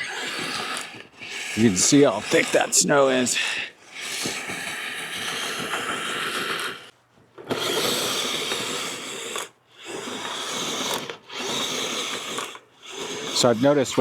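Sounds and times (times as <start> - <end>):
toy tracked vehicle motor grinding: 0.0 - 14.0.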